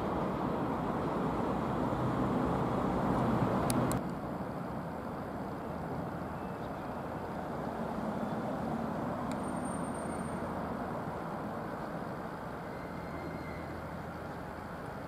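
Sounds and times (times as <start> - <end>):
locomotive diesel engine rumble: 0.0 - 15.0.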